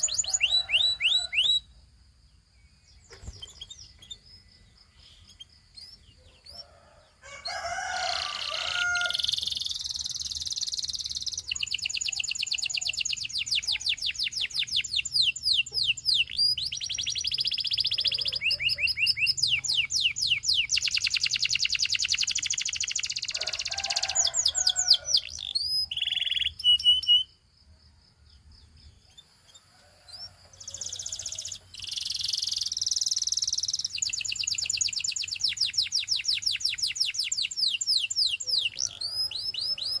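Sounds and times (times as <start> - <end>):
canary singing trills: 0.0 - 1.7, 2.7 - 27.5, 28.4 - 40.0.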